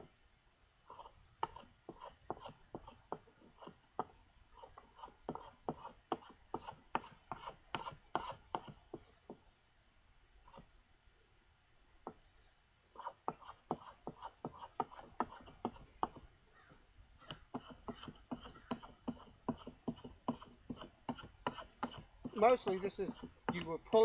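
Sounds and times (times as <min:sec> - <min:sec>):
spokeshave scraping wood: 0:00.9 - 0:09.3, 0:12.9 - 0:24.0.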